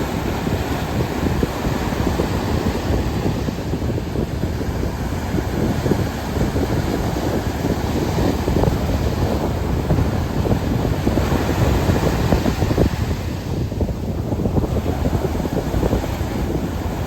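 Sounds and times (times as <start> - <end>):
rushing churning water: 0.0 - 17.0
wind buffeting microphone: 0.0 - 17.0.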